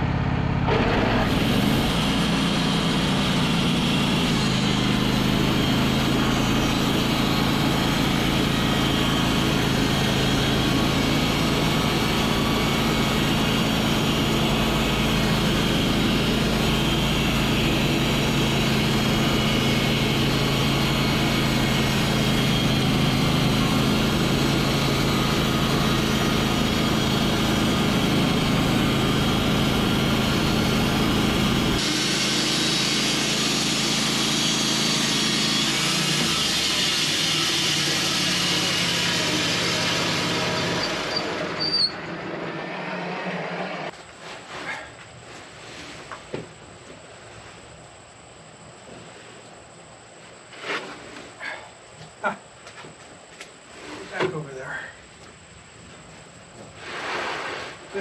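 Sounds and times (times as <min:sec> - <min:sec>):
sawmill engine running: 0:00.0 - 0:47.2.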